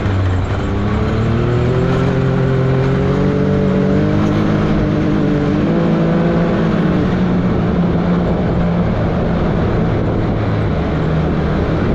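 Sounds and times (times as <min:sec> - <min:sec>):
loud steady rushing noise: 0:00.0 - 0:11.9
off-road vehicle engine: 0:00.0 - 0:11.9.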